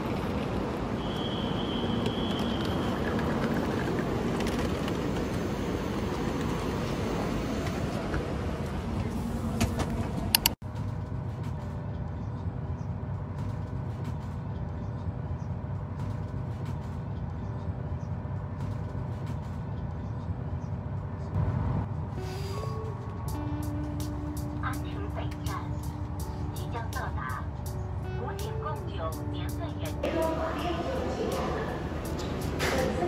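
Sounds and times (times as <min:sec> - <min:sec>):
moving vehicle running noise: 0:00.0 - 0:33.0.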